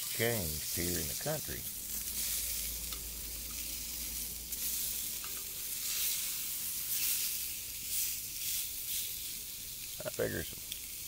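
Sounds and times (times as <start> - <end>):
burger patties sizzling: 0.0 - 11.0.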